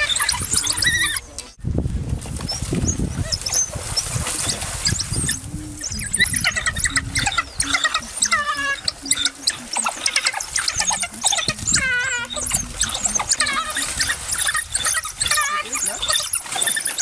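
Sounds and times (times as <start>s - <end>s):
wild dogs squeaking chirps: 0.0s - 1.6s, 2.5s - 17.0s.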